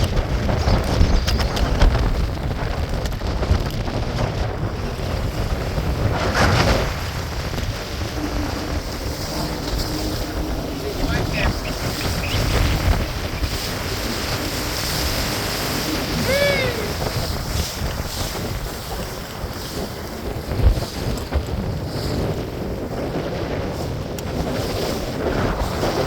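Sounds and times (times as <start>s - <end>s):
water splashing around a boat: 0.0s - 26.0s
wind buffeting the microphone: 0.0s - 26.0s.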